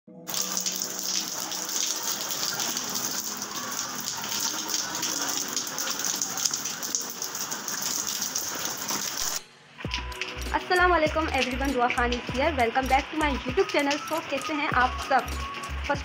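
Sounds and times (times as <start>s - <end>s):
raindrops ticking on surfaces: 0.3s - 16.0s
steady rain: 0.3s - 16.0s.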